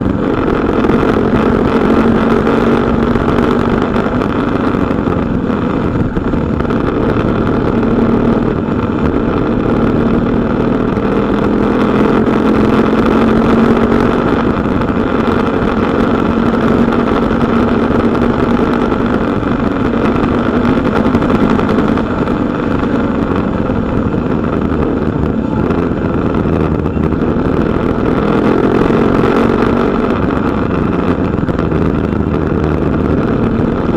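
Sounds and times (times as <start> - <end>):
motorcycle engine running: 0.0 - 33.9
wind rush: 0.0 - 33.9.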